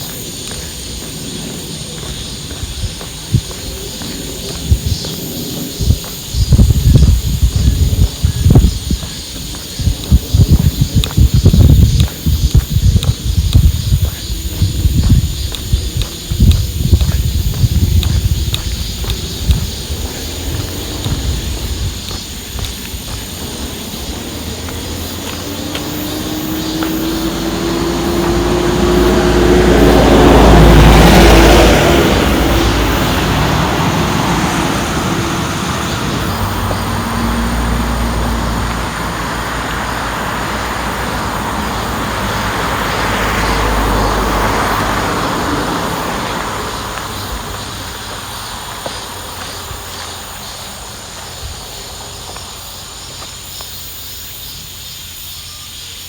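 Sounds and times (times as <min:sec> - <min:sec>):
road vehicles passing by: 0:00.0 - 0:56.0.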